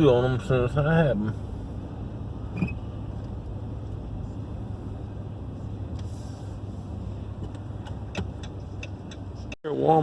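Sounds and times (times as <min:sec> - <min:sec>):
car low rumble: 0:00.0 - 0:10.0.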